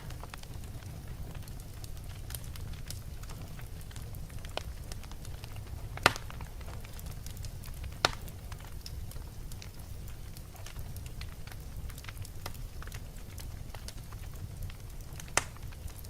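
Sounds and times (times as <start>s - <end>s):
loud sharp fire pops: 0.0s - 16.0s
wood fire crackling: 0.0s - 16.0s.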